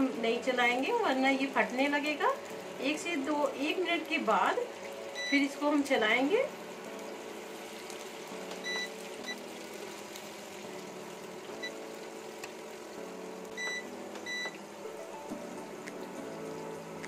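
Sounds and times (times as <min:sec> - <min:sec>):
appliance hum: 0:00.0 - 0:17.0
pasta sizzling in hot oil: 0:00.0 - 0:17.0.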